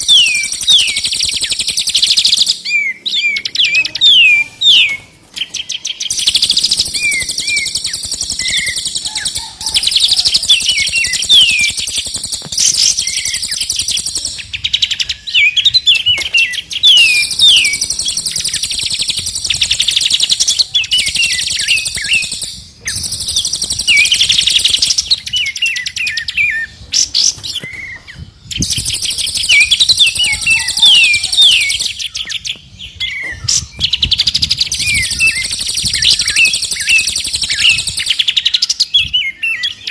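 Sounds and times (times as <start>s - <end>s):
falling whistled bird notes: 0.0s - 39.9s
songbirds trilling: 0.0s - 39.9s.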